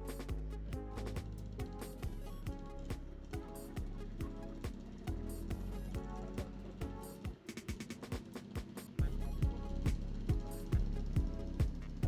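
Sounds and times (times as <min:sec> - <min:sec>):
deep kick drum: 0:00.0 - 0:07.3, 0:09.0 - 0:11.9
electronic beat music: 0:00.0 - 0:12.0.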